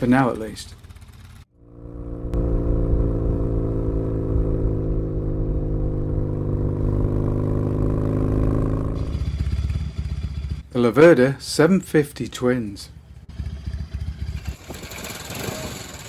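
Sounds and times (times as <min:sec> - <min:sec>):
motorcycle engine running: 0:00.0 - 0:10.7, 0:13.0 - 0:16.0.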